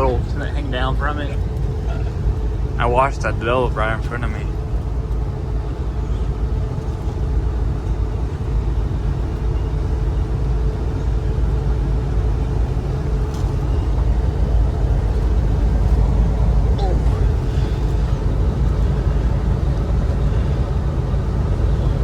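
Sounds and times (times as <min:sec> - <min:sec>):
car cabin road and engine rumble: 0:00.0 - 0:22.0
faint constant hum: 0:00.0 - 0:22.0.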